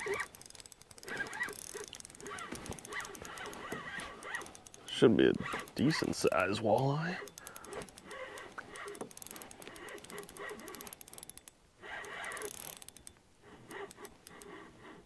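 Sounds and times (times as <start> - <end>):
fishing reel clicking: 0.0 - 15.0.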